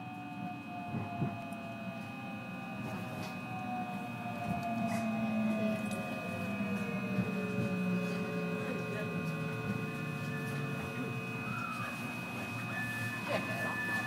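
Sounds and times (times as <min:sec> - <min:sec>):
train traction motors whining: 0:00.0 - 0:14.0.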